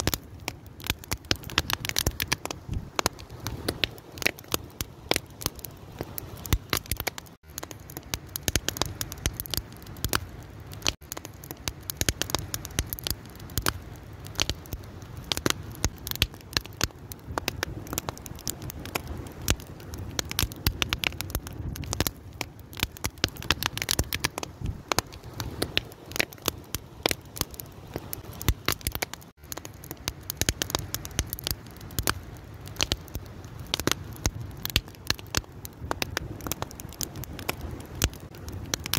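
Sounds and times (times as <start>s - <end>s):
flames rushing: 0.0s - 38.9s
wood fire crackling and popping: 0.0s - 38.9s.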